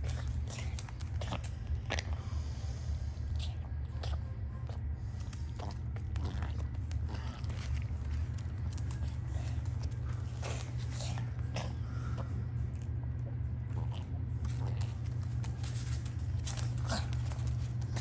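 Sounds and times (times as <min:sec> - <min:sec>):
dog licking and chewing: 0:00.0 - 0:02.2, 0:03.3 - 0:18.0
steady low hum: 0:00.0 - 0:18.0.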